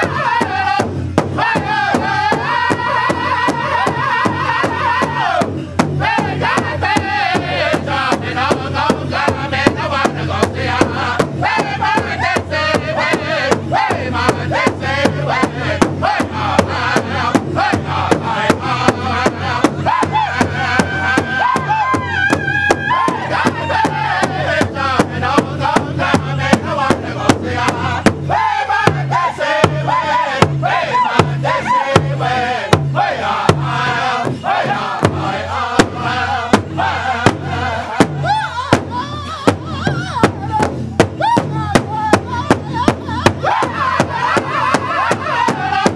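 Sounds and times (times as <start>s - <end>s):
group chanting high-pitched: 0.0s - 40.6s, 41.3s - 45.9s
large drum beating: 0.0s - 45.9s.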